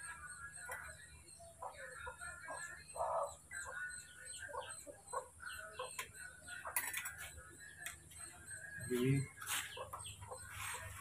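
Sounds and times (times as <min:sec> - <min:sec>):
chickens clucking: 0:01.6 - 0:11.0.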